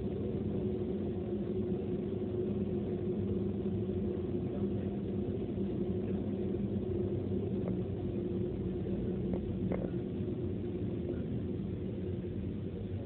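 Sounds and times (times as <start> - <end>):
car engine and tyre hum: 0.0 - 13.0.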